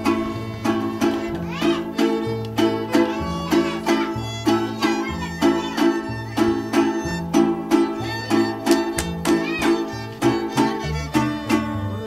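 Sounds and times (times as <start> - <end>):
bass guitar: 0.0 - 12.0
guitars strummed: 0.0 - 12.0
violin playing melody: 0.0 - 12.0.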